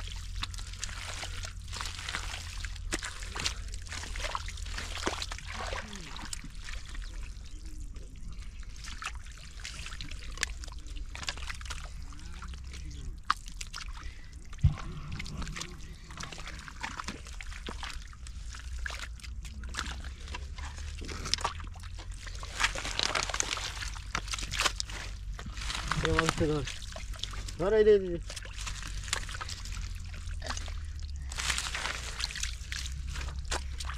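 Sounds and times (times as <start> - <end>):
steady low hum: 0.0 - 33.9
water splashing and sloshing: 0.0 - 33.9.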